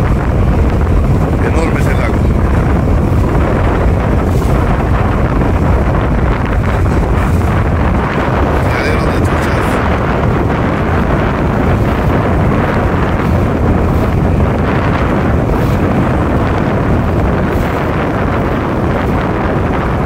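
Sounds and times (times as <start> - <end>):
boat motor running: 0.0 - 20.0
wind buffeting microphone: 0.0 - 20.0.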